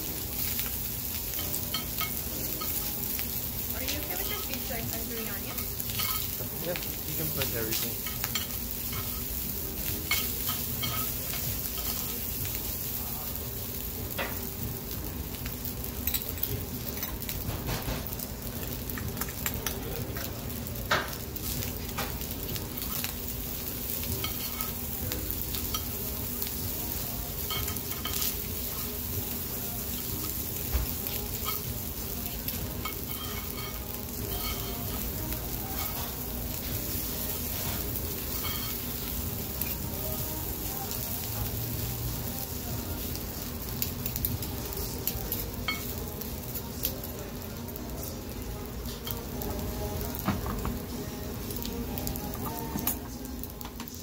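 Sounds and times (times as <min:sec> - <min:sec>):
rice sizzling in hot bowl: 0:00.0 - 0:54.0.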